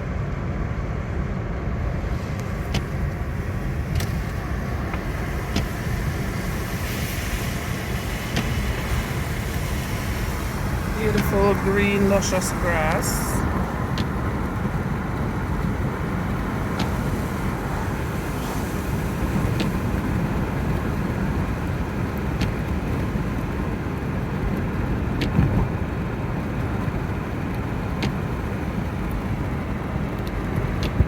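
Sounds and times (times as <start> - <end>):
road and engine rumble: 0.0 - 31.0.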